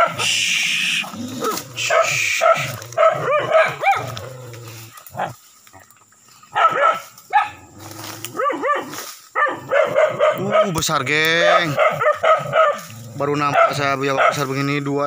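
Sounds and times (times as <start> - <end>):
dogs barking and yelping: 0.0 - 14.6.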